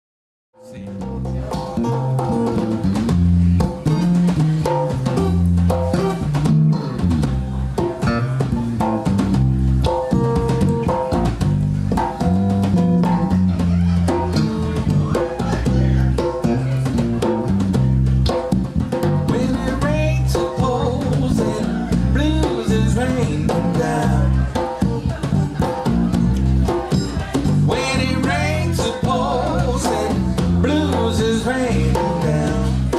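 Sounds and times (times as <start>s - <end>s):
instrumental blues band: 0.6s - 32.9s.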